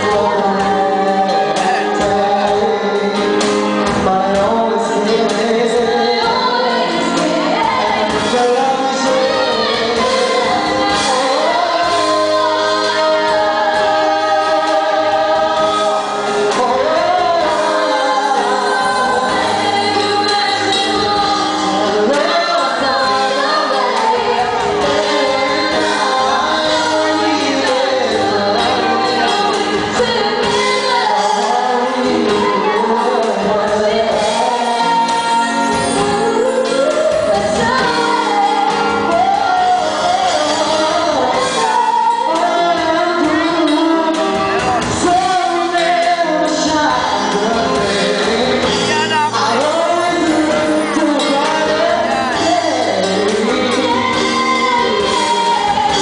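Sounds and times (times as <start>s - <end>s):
man and woman singing duet: 0.0s - 56.0s
musical accompaniment: 0.0s - 56.0s.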